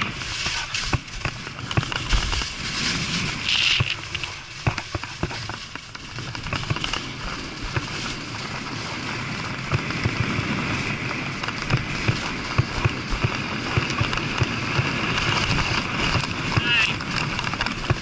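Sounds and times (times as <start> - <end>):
skis scraping over snow: 0.0 - 18.0
wind rumble on microphone: 0.0 - 18.0.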